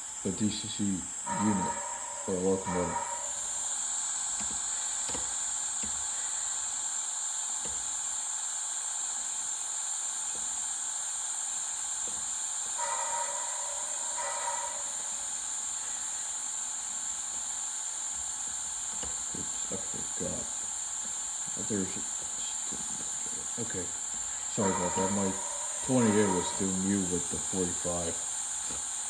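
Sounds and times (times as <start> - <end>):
steam hiss: 0.0 - 29.0.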